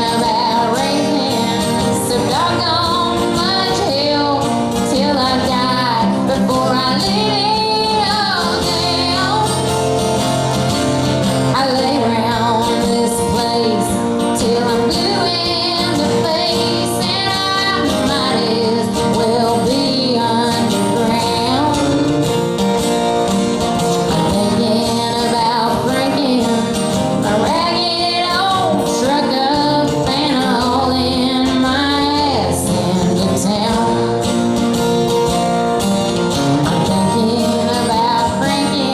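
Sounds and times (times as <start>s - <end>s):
woman singing: 0.0s - 22.5s, 23.6s - 34.9s, 36.1s - 38.9s
country band with acoustic guitar: 0.0s - 38.9s.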